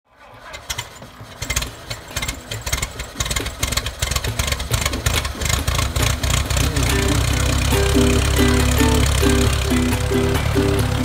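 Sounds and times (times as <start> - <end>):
engine idling with rhythmic clatter: 0.1 - 11.0.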